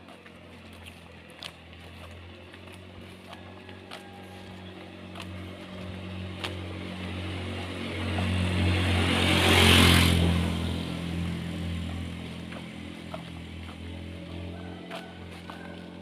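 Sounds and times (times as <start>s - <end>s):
motor vehicle passing: 0.0s - 16.0s.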